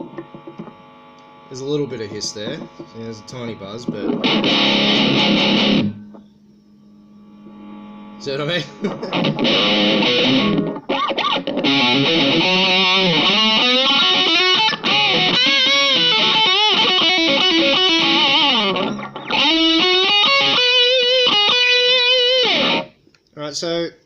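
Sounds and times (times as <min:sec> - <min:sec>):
distorted electric guitar: 0:00.0 - 0:06.4, 0:07.2 - 0:23.0.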